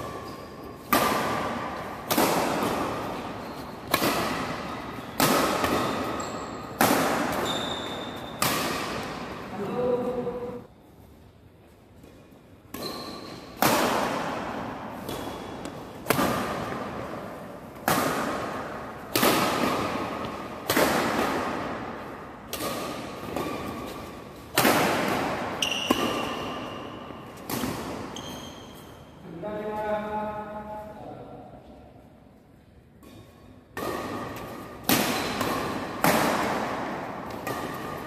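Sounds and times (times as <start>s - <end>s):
racquets hitting shuttlecock echoing: 0.0s - 10.6s, 12.0s - 29.2s, 32.8s - 38.0s.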